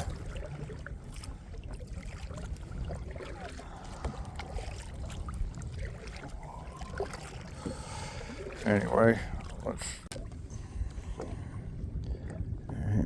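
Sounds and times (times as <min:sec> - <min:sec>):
faint ticks and splashes: 0:00.0 - 0:12.5
waves lapping against kayak hull: 0:00.0 - 0:13.0
wind rumble on microphone: 0:00.0 - 0:13.0.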